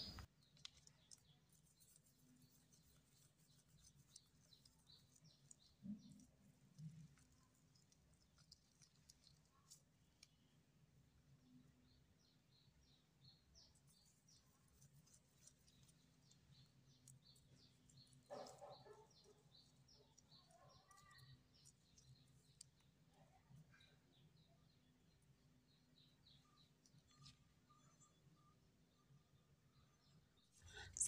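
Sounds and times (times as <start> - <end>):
small bird chirping faintly: 0.0 - 31.0.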